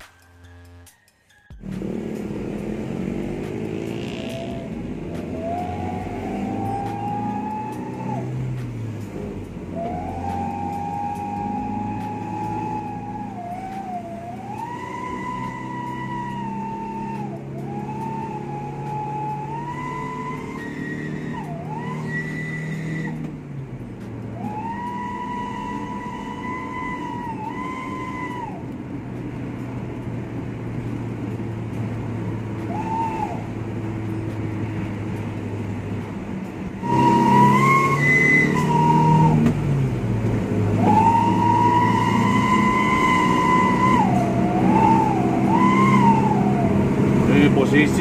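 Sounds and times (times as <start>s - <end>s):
howling whistle exhaust: 0.0s - 23.3s, 24.2s - 28.8s, 30.9s - 35.0s, 36.7s - 48.0s
engine drone: 0.0s - 48.0s.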